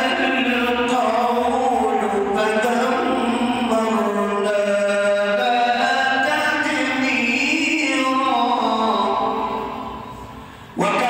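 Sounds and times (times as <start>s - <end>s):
man chanting melodically: 0.0s - 10.1s, 10.7s - 11.0s.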